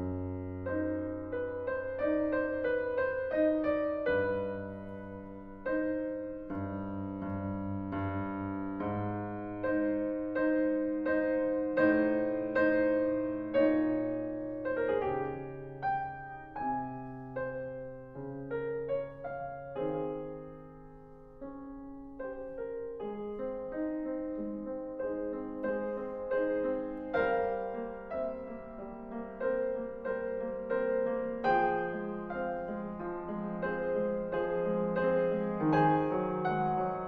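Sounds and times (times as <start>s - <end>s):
gentle piano music: 0.0s - 37.0s.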